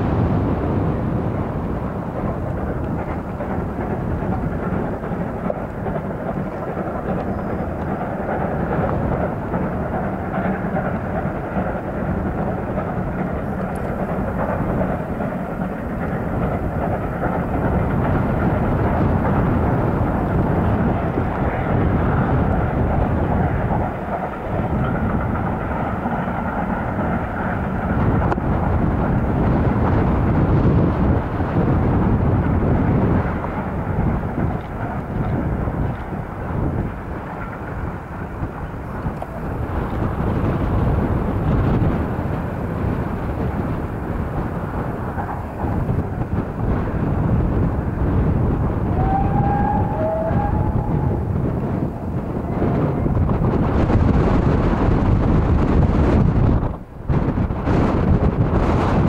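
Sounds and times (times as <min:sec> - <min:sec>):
steam locomotives working hard: 0:00.0 - 0:59.0
wind buffeting the microphone: 0:00.0 - 0:59.0.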